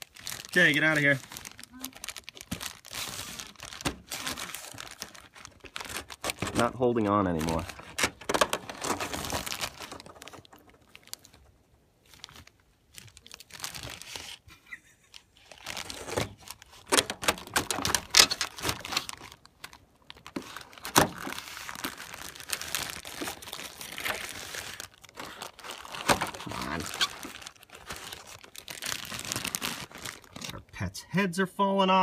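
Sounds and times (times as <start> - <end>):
plastic bag crinkling: 0.0 - 30.7.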